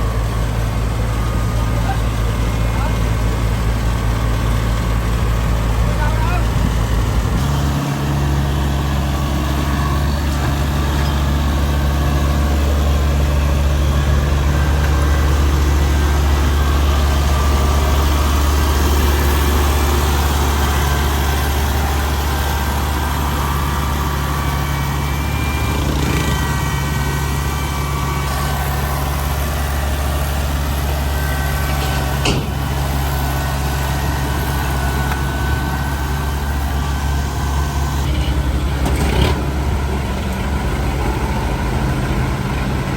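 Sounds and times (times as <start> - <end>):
diesel engine humming: 0.0 - 42.9.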